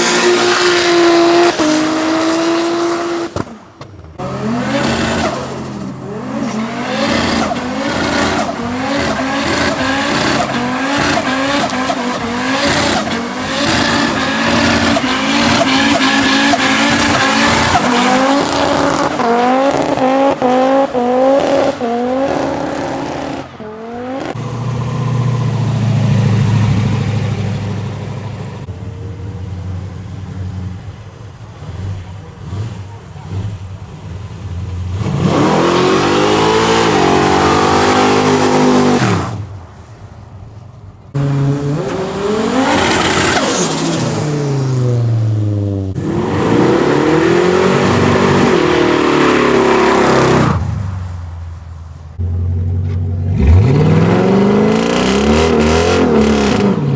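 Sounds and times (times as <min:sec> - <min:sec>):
cars accelerating past: 0:00.0 - 0:28.8, 0:30.0 - 0:39.6, 0:41.1 - 0:56.9.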